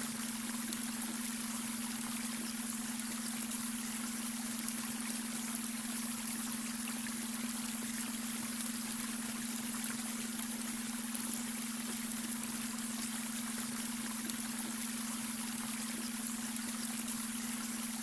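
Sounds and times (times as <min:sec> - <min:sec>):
flowing water: 0:00.0 - 0:18.0.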